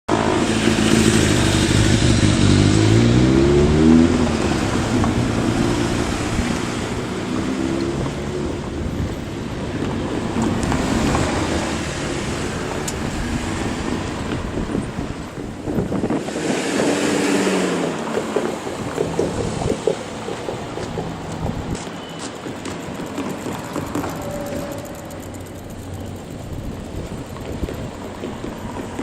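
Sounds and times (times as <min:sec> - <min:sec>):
diesel locomotive engine revving: 0:00.1 - 0:29.0.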